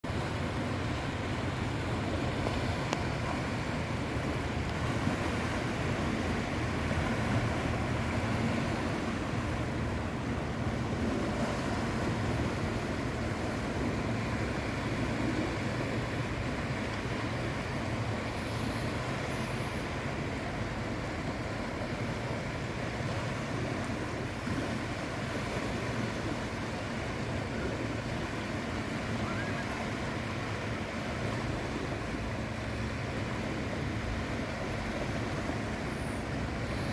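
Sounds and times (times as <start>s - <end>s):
sea waves washing on shore: 0.0s - 36.9s.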